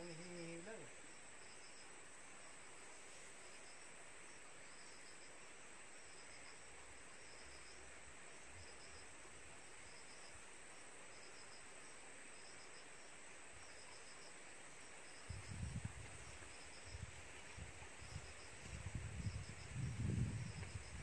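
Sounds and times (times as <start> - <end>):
cricket-like chirps: 0.0 - 21.0
high-pitched insect hum: 0.0 - 21.0.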